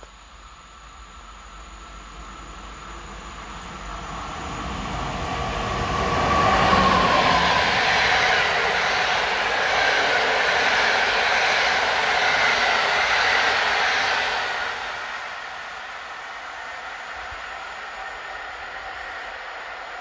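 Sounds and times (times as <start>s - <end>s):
electric locomotive whine: 0.0s - 20.0s
train wheels on rails: 0.0s - 20.0s.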